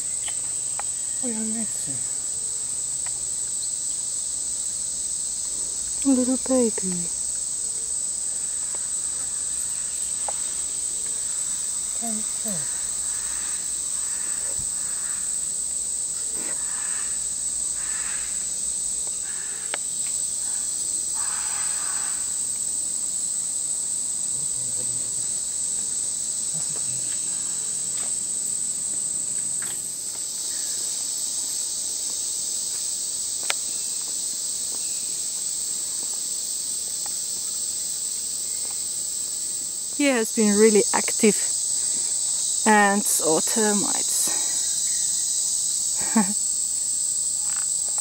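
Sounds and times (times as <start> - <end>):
insect chorus drone: 0.0 - 48.0.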